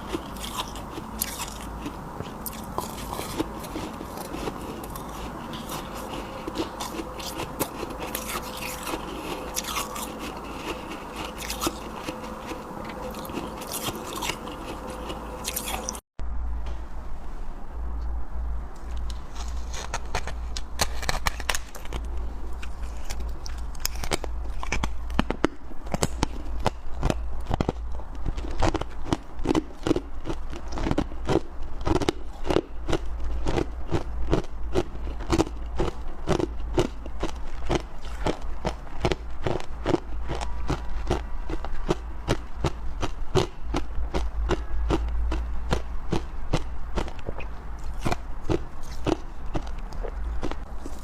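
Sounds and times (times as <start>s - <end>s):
chewing crunchy ice: 0.0s - 16.0s, 18.9s - 51.0s.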